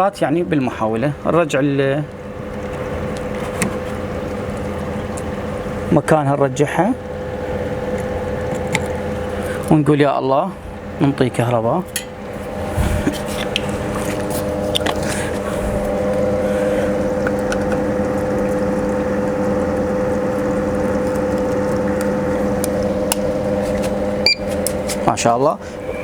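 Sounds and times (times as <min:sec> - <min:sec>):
air conditioner fan hum: 0:00.0 - 0:26.0.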